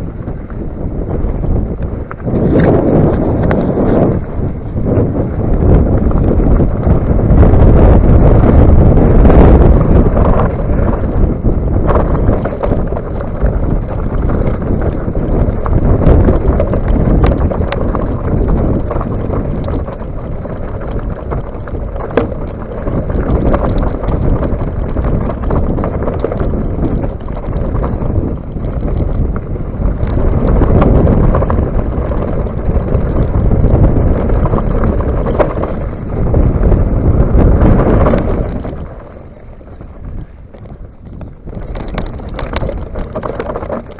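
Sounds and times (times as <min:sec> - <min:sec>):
bike rattling over rocks: 0:00.0 - 0:43.9
tyres rumbling on loose stones: 0:00.0 - 0:43.9
wind buffeting microphone: 0:00.0 - 0:43.9.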